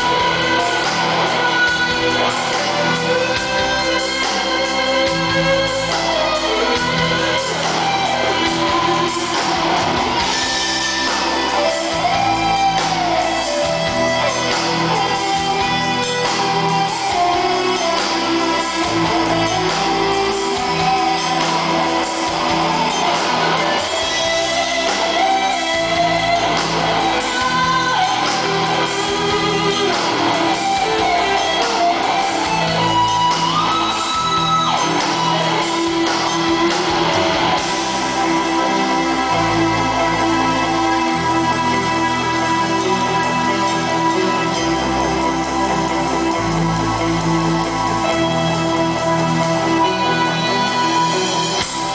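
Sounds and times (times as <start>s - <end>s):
bass: 0.0s - 51.9s
bending guitar lead line: 0.0s - 51.9s
drums: 0.0s - 51.9s
electric guitars: 0.0s - 51.9s.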